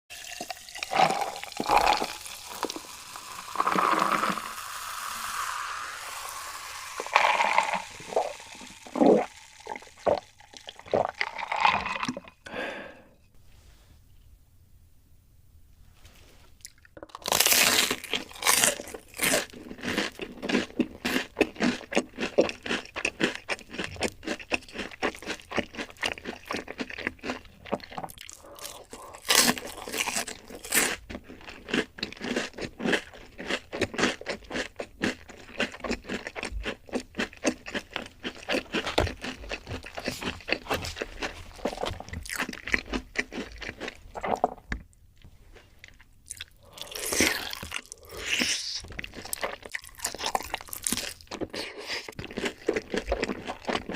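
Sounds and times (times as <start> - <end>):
crunchy chewing of food: 0.2 - 12.4, 16.6 - 53.9.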